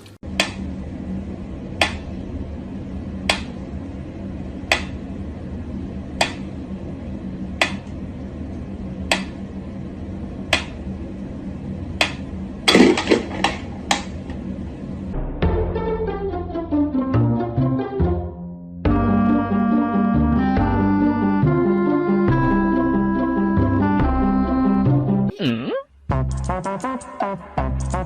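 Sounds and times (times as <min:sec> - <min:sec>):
steady low hum: 0:00.0 - 0:16.8, 0:18.9 - 0:25.3.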